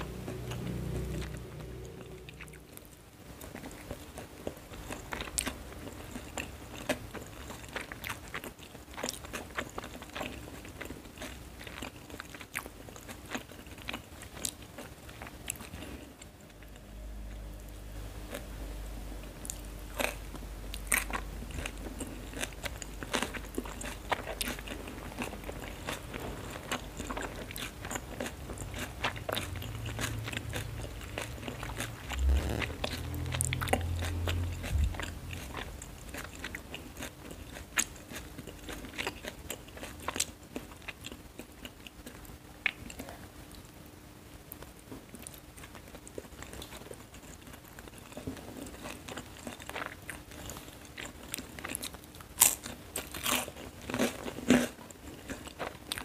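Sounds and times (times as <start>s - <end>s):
person chewing noodles: 0.0s - 18.5s, 19.2s - 43.2s, 45.1s - 56.0s
steady low hum: 0.0s - 56.0s.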